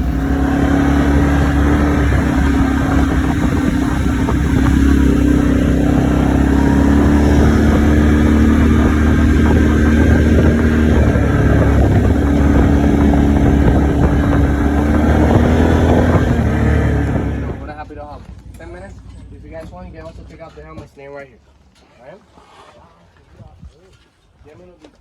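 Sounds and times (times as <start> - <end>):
atv engine running: 0.0 - 20.7.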